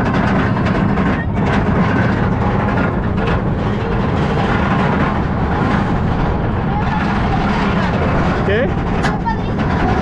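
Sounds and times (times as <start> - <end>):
roller coaster rumbling on track: 0.0 - 10.0.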